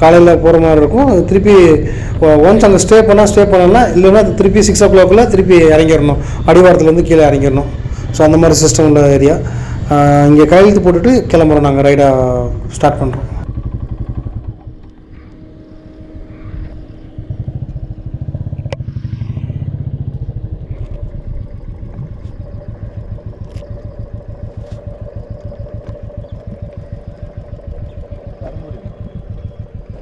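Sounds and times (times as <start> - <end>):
motorcycle exhaust beat: 0.0 - 30.0.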